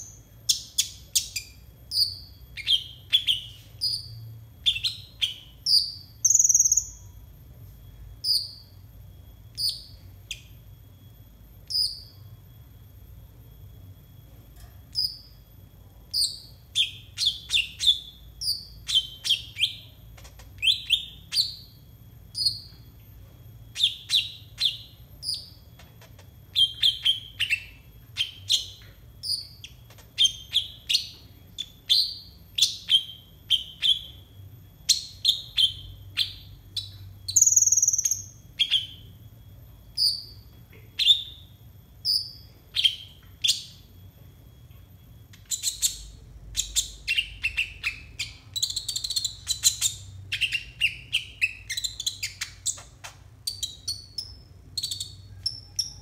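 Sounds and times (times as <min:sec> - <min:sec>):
bird chirping: 0:00.0 - 0:07.3, 0:08.1 - 0:10.7, 0:11.6 - 0:12.4, 0:14.9 - 0:15.5, 0:16.1 - 0:23.1, 0:23.7 - 0:44.0, 0:44.6 - 0:56.0.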